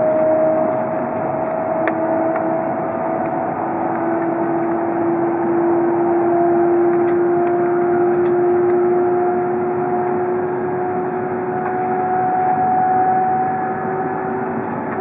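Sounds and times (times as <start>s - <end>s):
train running noise with rising whine: 0.0s - 15.0s.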